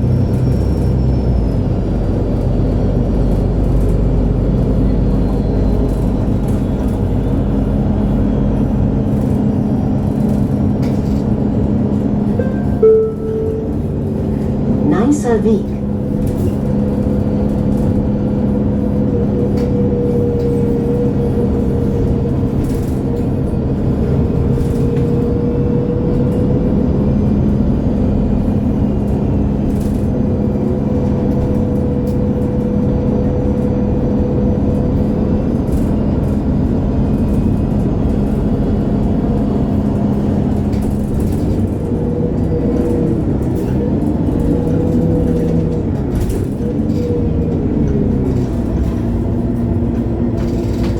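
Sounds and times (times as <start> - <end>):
bus engine droning: 0.0 - 50.9
drivetrain whine: 0.0 - 50.9.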